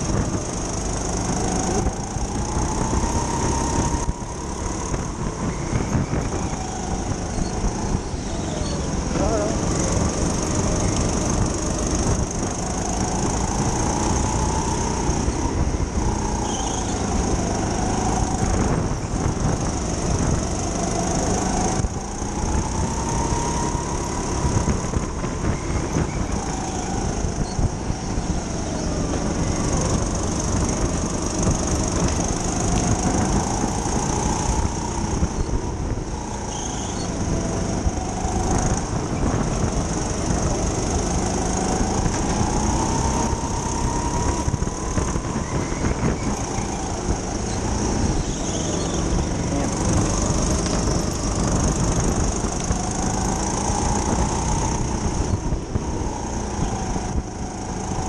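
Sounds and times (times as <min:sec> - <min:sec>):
go-kart motor racing: 0:00.0 - 0:58.0.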